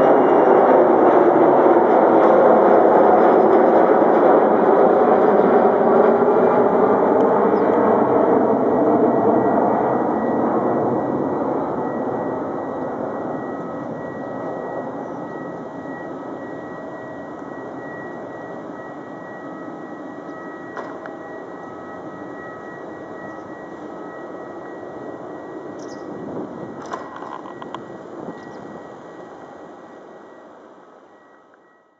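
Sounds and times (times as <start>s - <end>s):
jet engines roaring: 0.0s - 31.7s
high jet engine whine: 0.0s - 31.9s.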